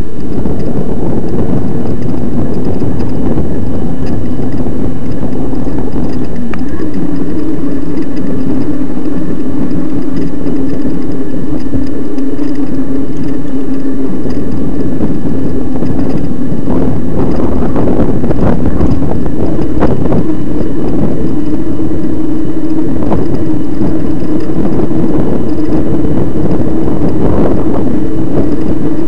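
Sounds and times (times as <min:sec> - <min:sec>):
electric motor droning: 0:00.0 - 0:29.0
wind buffeting microphone: 0:00.0 - 0:29.0.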